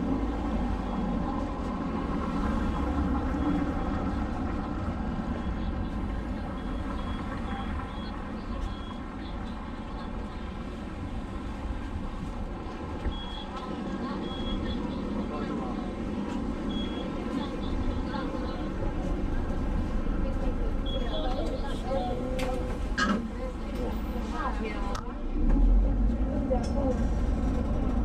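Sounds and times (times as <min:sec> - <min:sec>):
large vehicle rumble and whine: 0:00.0 - 0:28.0.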